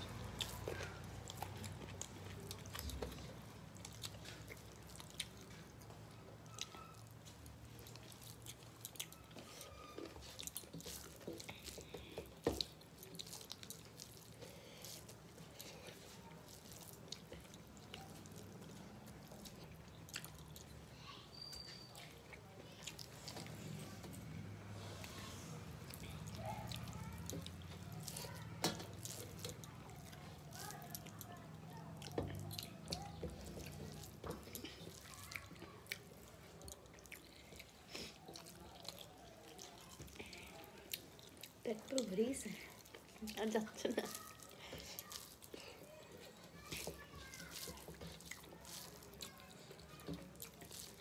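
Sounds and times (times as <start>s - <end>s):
chewing with wet clicks: 0.0s - 51.0s
fingers squishing rice on plates: 0.0s - 51.0s.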